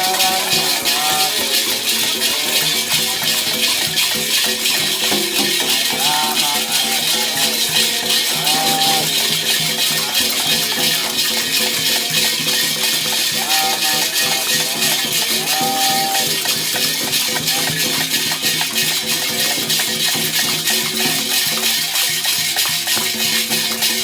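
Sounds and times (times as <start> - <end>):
shakers rattling: 0.0 - 24.0.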